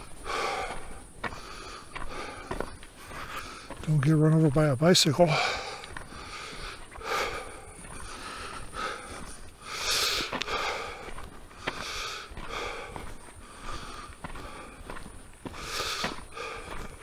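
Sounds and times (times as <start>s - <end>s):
light footsteps on a trail: 0.0s - 17.0s
person breathing while walking: 0.0s - 17.0s.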